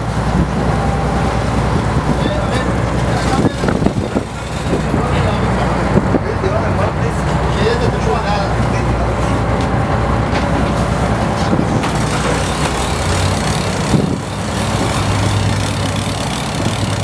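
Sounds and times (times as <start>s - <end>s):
boat engine humming: 0.0s - 17.0s
rushing wind: 0.0s - 17.0s
water rushing: 0.0s - 17.0s.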